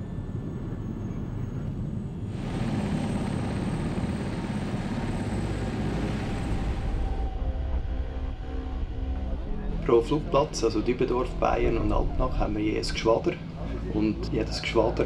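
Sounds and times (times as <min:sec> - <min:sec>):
helicopter rotor rumble: 0:00.0 - 0:15.0
turbine whine: 0:00.0 - 0:15.0.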